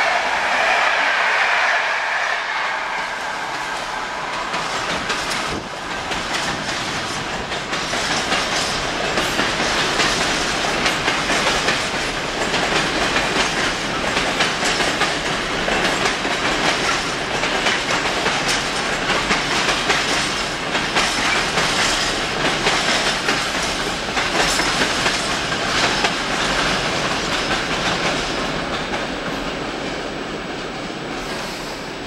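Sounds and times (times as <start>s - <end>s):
train wheels clattering: 0.0s - 31.7s.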